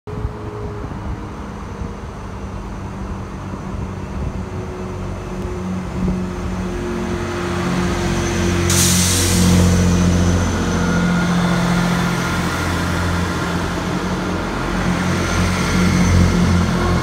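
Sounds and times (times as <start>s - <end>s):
diesel train engine drone: 0.1s - 17.0s.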